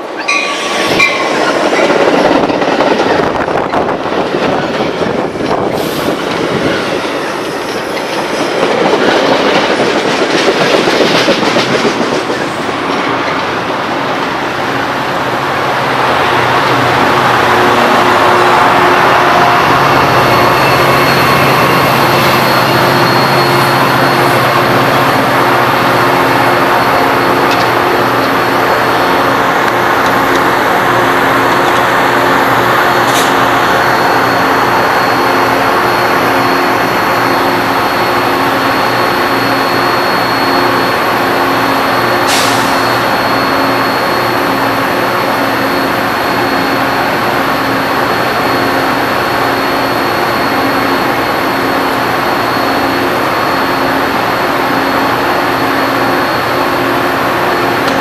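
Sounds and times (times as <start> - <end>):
diesel locomotive running: 0.0 - 58.0.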